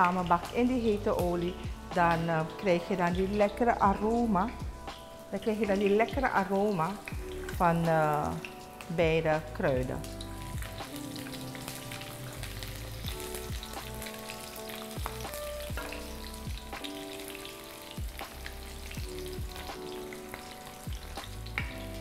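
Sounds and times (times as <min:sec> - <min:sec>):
food sizzling in hot oil: 0:00.0 - 0:22.0
soft background music: 0:00.0 - 0:22.0.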